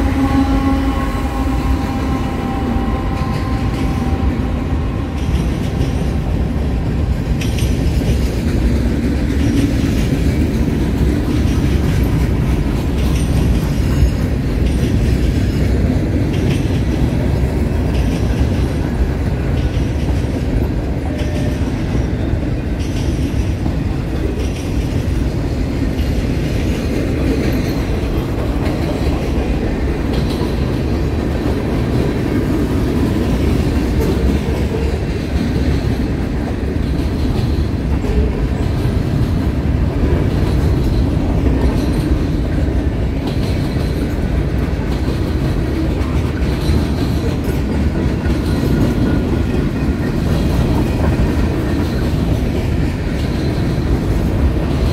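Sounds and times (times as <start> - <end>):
train wheels rumbling on rails: 0.0 - 54.9
wheels clanking over rail joints: 1.3 - 54.9.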